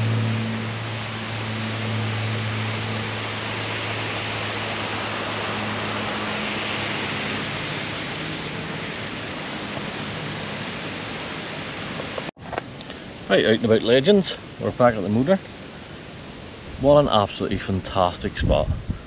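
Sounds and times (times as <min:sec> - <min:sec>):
light rain on water and trees: 0:00.0 - 0:18.6
low steady hum: 0:00.0 - 0:19.0.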